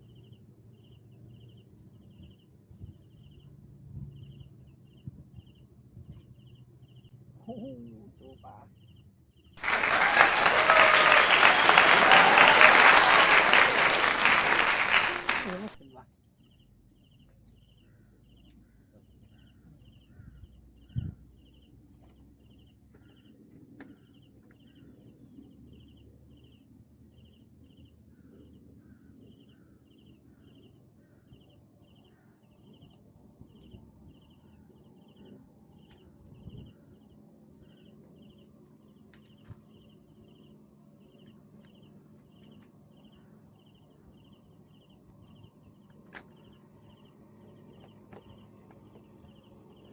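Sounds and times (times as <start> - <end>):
outdoor background noise: 0.0 - 49.9.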